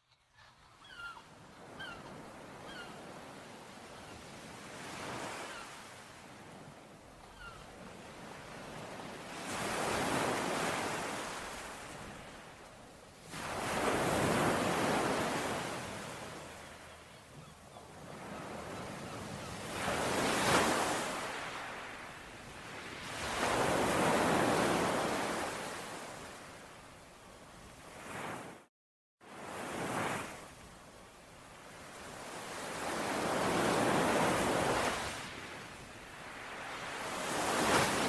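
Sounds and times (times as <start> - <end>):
ocean waves breaking on shore: 0.8 - 38.0.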